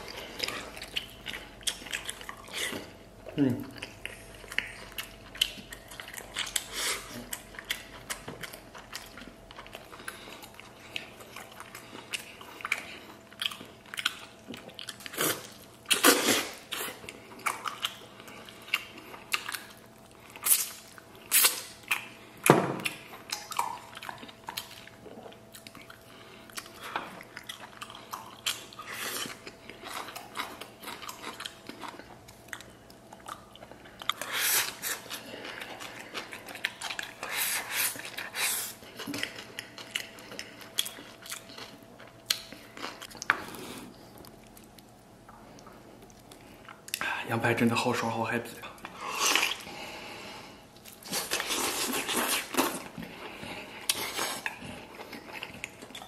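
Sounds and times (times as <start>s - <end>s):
person chewing meat: 0.0s - 47.1s, 48.6s - 56.0s.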